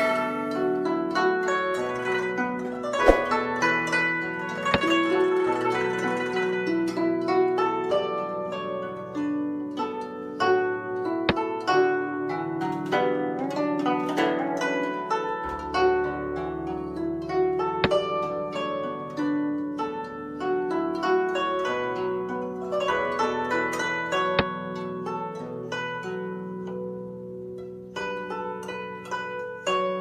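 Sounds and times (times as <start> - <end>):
plucked string music: 0.0 - 30.0.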